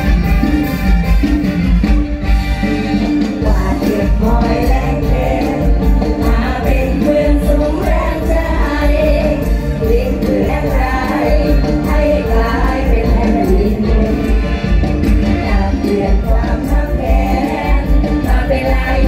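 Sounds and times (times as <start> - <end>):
band music through loudspeakers: 0.0 - 19.0
people singing: 3.4 - 19.0.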